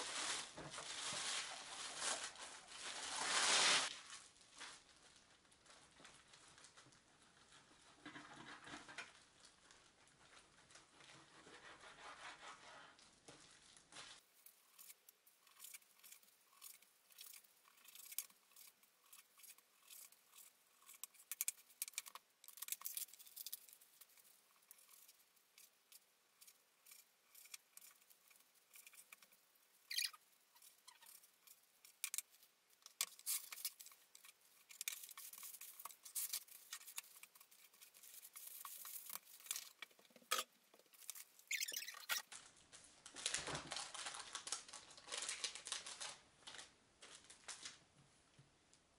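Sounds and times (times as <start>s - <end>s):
plastic gloves and bags rustling: 0.0s - 8.1s, 9.0s - 48.0s.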